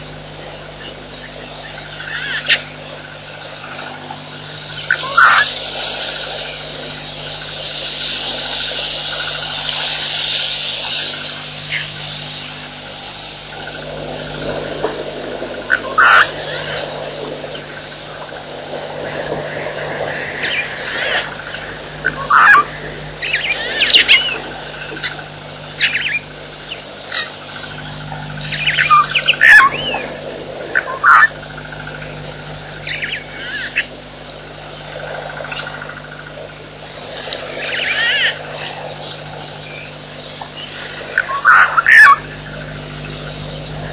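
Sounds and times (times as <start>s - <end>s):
birds chirping: 0.0s - 43.9s
steady low hum: 0.0s - 43.9s.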